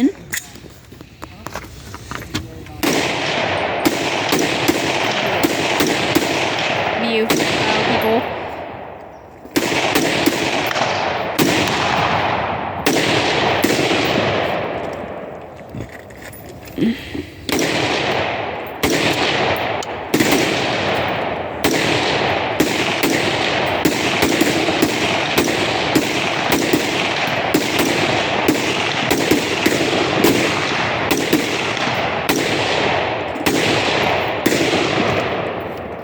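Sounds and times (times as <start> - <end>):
rapid echoing gunshots: 2.8 - 15.4, 17.4 - 36.0.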